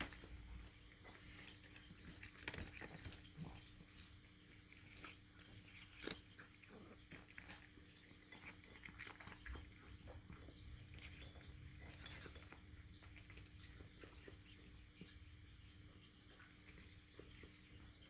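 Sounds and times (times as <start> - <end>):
cat chewing: 0.0 - 18.0
faint steady hum: 0.0 - 18.0.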